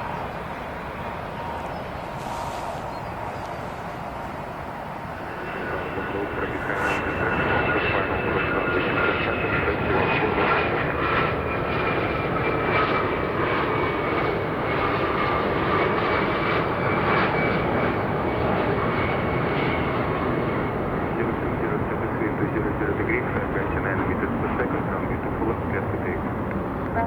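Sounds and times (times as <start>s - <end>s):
jet engines roaring with whine: 0.0s - 27.0s.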